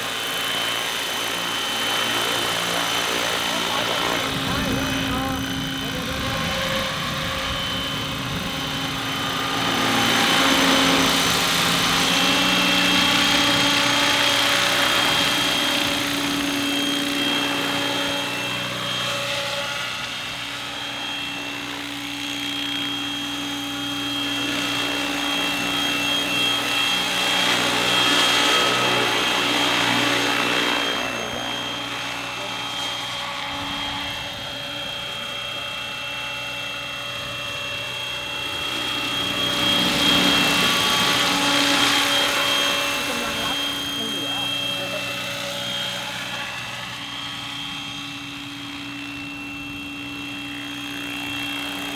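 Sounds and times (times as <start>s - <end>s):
model helicopter rotor whine: 0.0s - 51.9s.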